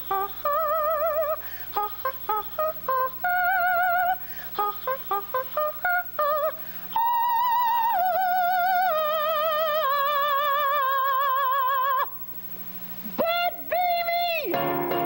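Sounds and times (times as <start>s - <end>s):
woman singing unaccompanied: 0.0s - 12.2s, 13.1s - 15.0s.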